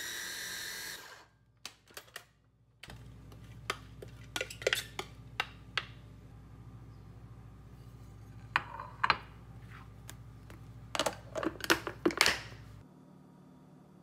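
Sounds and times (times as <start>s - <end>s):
low steady hum: 2.5s - 14.0s.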